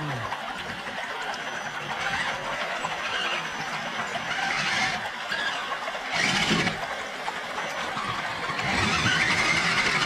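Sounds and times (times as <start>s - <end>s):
rc truck motor under load: 1.2s - 10.0s.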